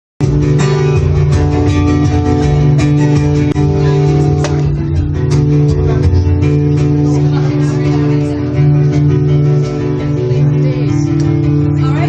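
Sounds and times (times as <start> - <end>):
guitar strumming chords: 0.2 - 12.0
low bass: 0.2 - 12.0.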